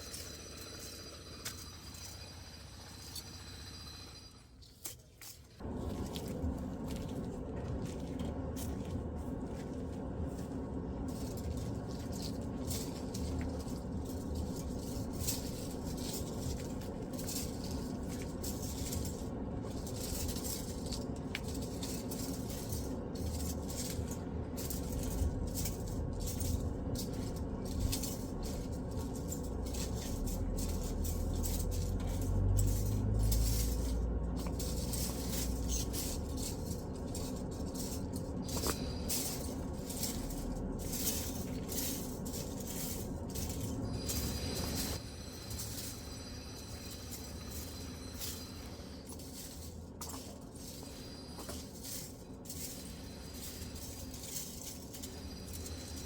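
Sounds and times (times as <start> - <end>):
rustling and crackling handling: 4.6 - 56.0
low rumble: 5.6 - 56.0.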